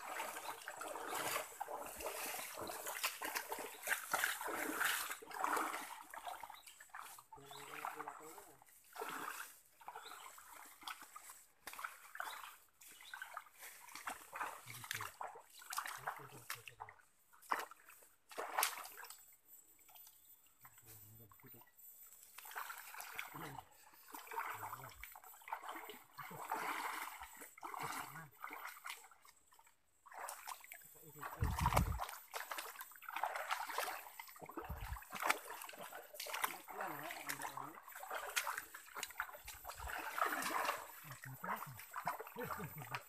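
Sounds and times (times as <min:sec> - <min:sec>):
feet splashing in stream: 0:00.0 - 0:19.2, 0:22.2 - 0:43.0.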